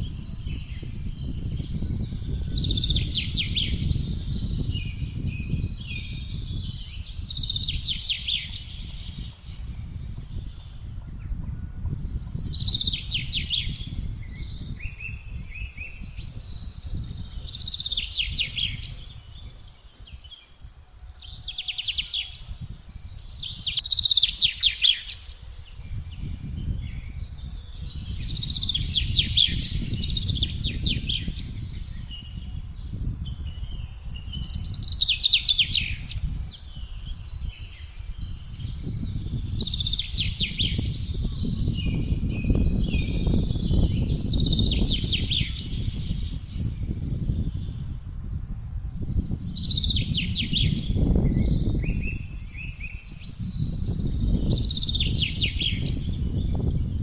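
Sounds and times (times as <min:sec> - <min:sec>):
gusty wind: 0:00.0 - 0:57.0
songbirds trilling: 0:00.0 - 0:57.0.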